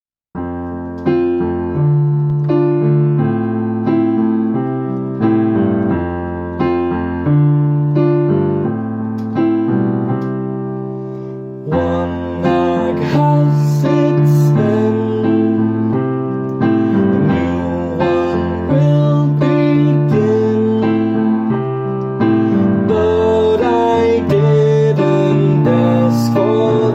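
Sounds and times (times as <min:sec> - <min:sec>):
piano chords: 0:00.4 - 0:26.9.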